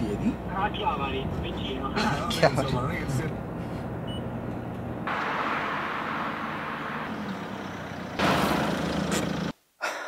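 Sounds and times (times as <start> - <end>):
car engine and road noise: 0.0 - 9.6.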